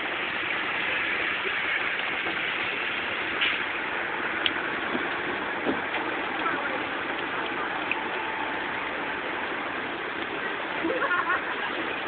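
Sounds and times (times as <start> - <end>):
heavy rain on car: 0.0 - 12.0.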